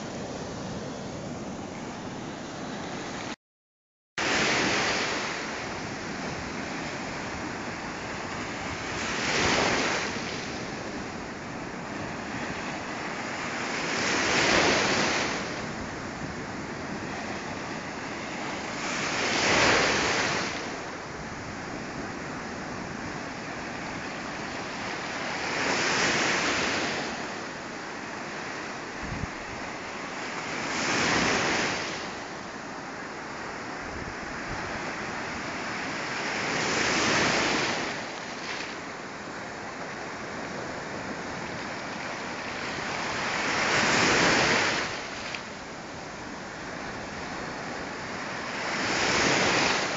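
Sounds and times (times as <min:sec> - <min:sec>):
waves crashing on beach: 0:00.0 - 0:03.4, 0:04.2 - 0:49.9.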